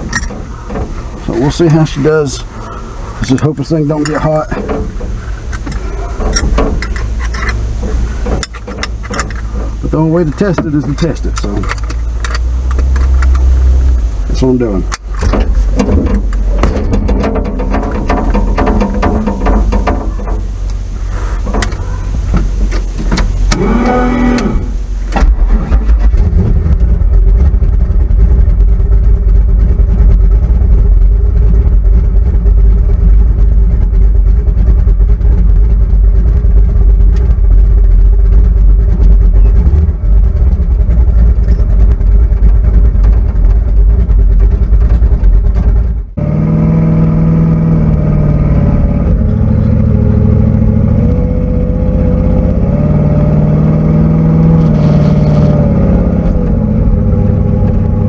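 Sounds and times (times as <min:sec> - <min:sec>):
car engine droning: 0:00.0 - 0:58.0.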